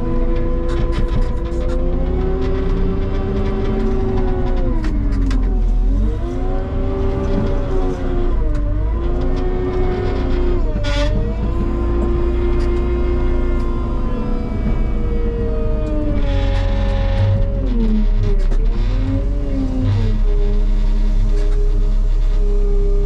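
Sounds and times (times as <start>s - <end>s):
tractor diesel engine running hard: 0.0s - 23.0s.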